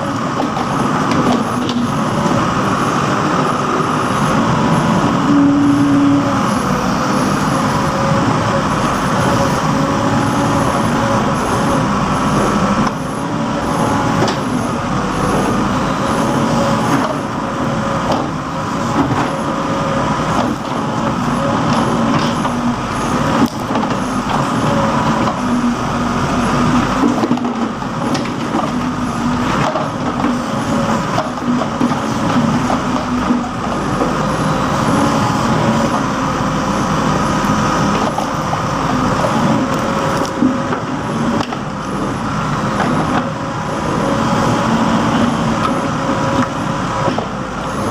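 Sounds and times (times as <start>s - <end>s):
backhoe diesel engine running: 0.0s - 47.9s.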